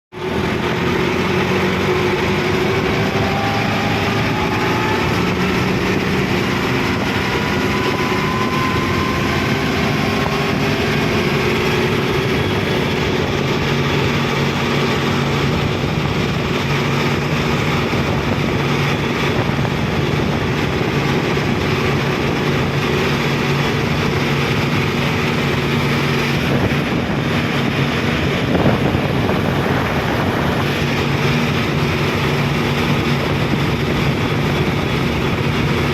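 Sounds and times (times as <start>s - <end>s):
tractor diesel engine running: 0.1s - 35.9s.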